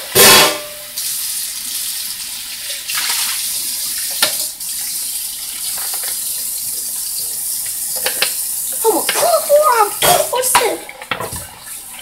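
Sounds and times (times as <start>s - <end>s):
kitchen tap running: 0.0s - 12.0s.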